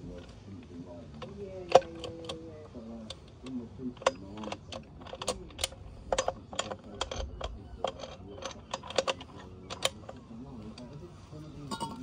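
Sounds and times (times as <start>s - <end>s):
tools clinking against engine: 1.2s - 12.0s.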